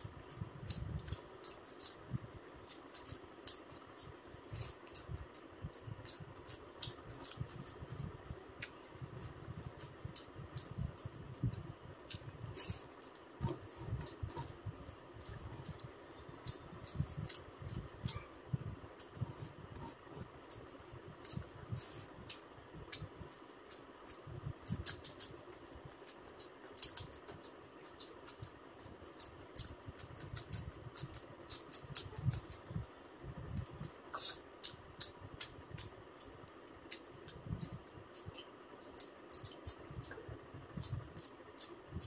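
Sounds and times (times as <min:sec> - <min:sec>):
chewing and mouth noises: 0:00.0 - 0:42.0.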